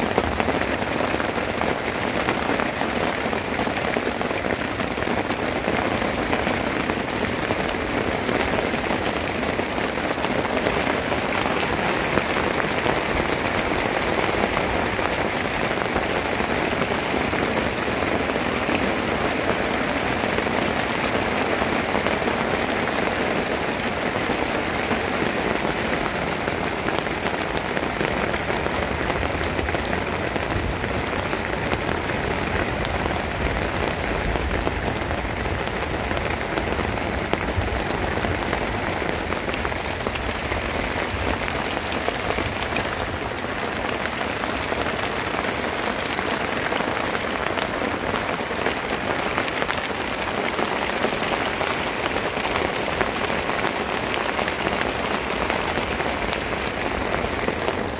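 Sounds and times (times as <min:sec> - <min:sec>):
rain on stony ground: 0:00.0 - 0:57.9.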